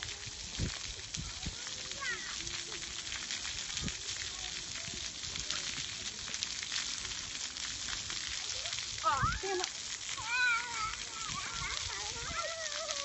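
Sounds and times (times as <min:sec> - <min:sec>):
water jets spraying on concrete: 0:00.0 - 0:13.0.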